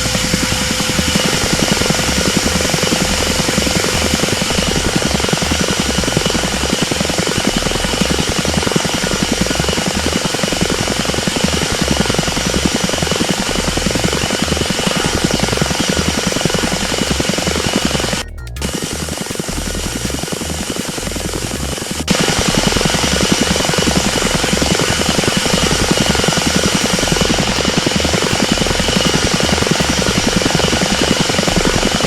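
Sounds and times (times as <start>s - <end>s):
helicopter rotor chop: 0.0s - 32.0s
high whine: 0.0s - 32.0s.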